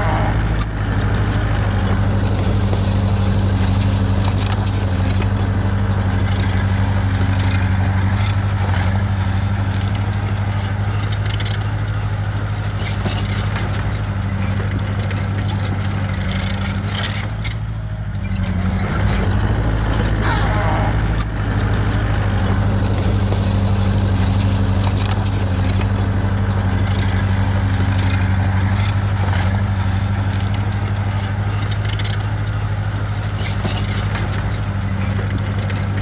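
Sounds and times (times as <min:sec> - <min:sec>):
bulldozer diesel engine droning: 0:00.0 - 0:36.0
metallic rattling and clinking: 0:00.0 - 0:36.0.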